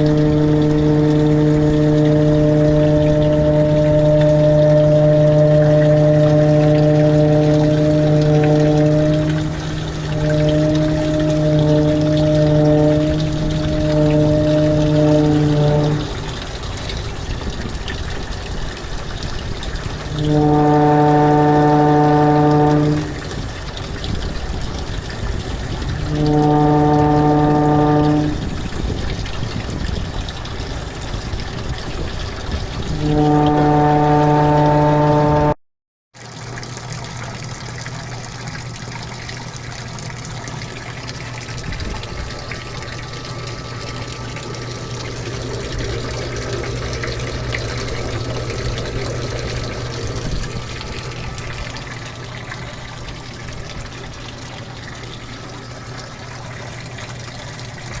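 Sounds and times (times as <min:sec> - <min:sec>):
loud steady hum: 0:00.0 - 0:35.6, 0:37.8 - 0:58.0
low motor hum: 0:00.0 - 0:35.6, 0:36.4 - 0:58.0
water trickling: 0:00.0 - 0:35.6, 0:36.2 - 0:58.0.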